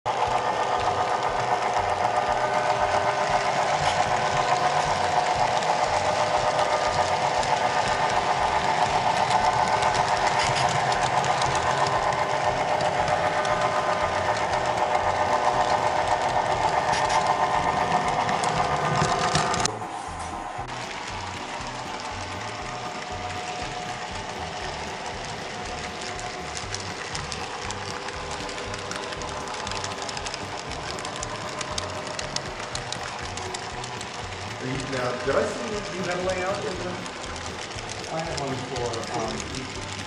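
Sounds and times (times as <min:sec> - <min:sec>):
fine rapid ticking: 0:00.1 - 0:19.7, 0:20.6 - 0:40.0
model train motor whirring: 0:00.1 - 0:40.0.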